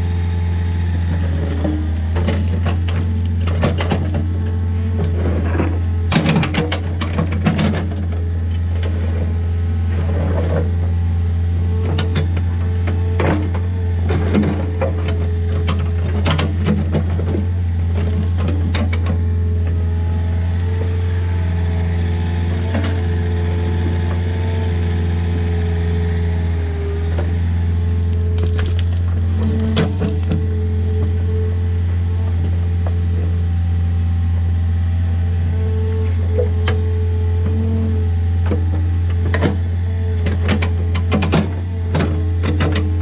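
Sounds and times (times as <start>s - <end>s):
diesel engine running: 0.0s - 43.0s
hydraulic whine: 0.0s - 43.0s.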